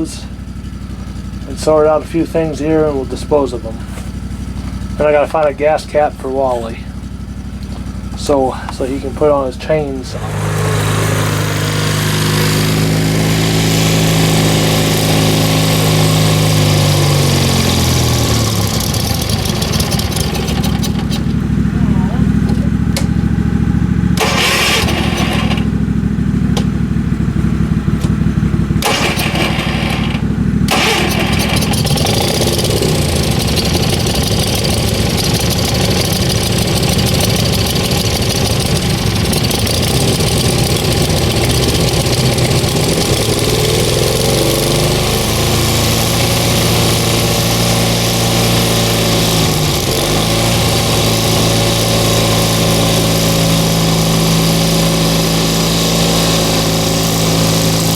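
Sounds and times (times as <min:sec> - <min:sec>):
engine running: 0:00.0 - 0:57.9.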